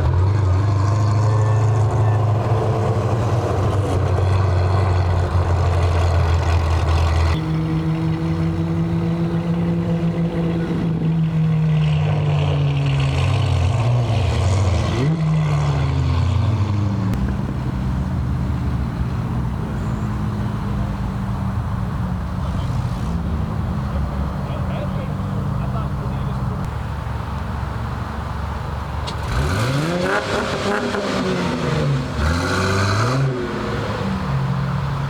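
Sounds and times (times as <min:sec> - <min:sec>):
cars driving past slowly: 0:00.0 - 0:35.0.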